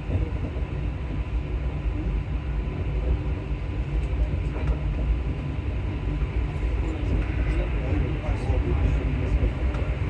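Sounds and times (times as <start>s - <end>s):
metro train rumbling in tunnel: 0.0s - 10.0s.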